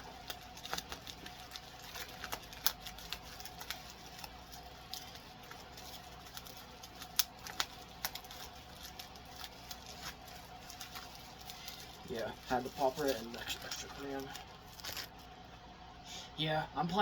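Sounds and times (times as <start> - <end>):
notebooks and packaging handled: 0.0 - 15.3.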